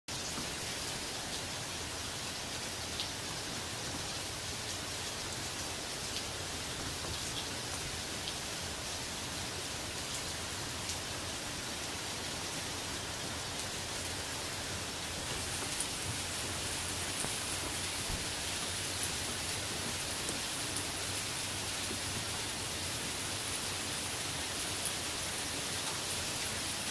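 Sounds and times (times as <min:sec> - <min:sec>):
heavy rain pouring: 0:00.1 - 0:26.9
loud raindrops hitting close: 0:00.1 - 0:26.9.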